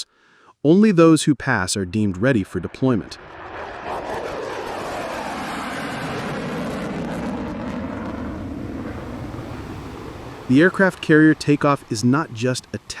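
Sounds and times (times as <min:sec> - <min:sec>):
jet aircraft engines running: 0:02.5 - 0:13.0.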